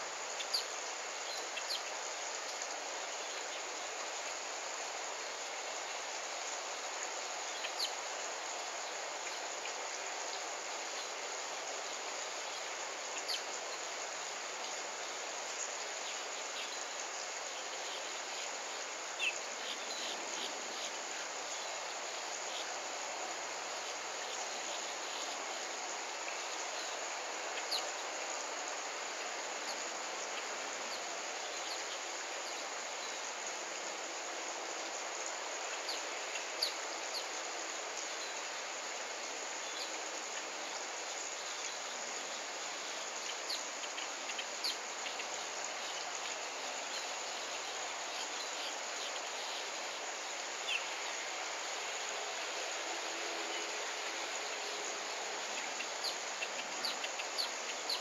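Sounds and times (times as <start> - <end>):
insect drone: 0.0 - 58.0
steady hiss: 0.0 - 58.0.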